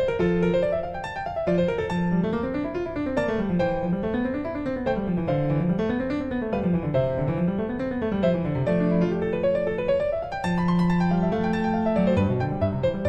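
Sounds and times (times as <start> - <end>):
piano arpeggios over bass line: 0.0 - 13.0.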